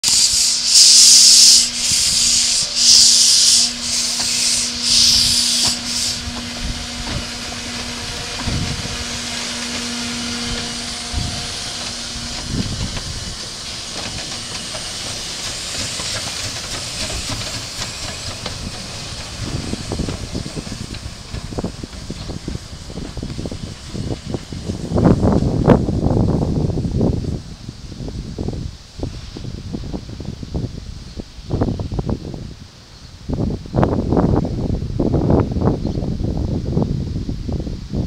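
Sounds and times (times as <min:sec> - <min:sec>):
steam hissing: 0:00.0 - 0:32.1
steam locomotive exhaust chuffs: 0:00.0 - 0:32.2.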